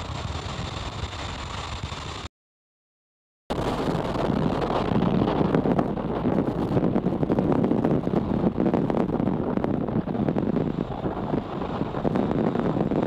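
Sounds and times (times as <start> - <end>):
rocket engines rumbling with crackle: 0.0 - 2.3, 3.5 - 13.0.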